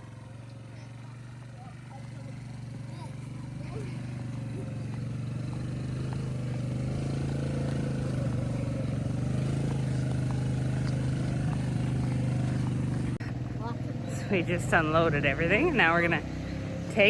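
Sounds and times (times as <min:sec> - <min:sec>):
small trike engine running: 0:00.0 - 0:17.0.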